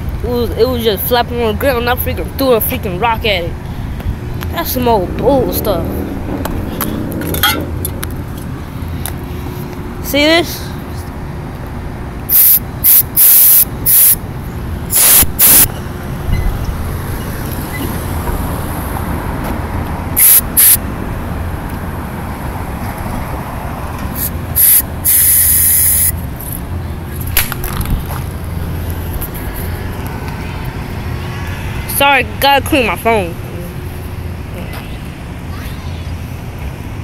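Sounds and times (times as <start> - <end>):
low rumble of traffic: 0.0 - 37.0.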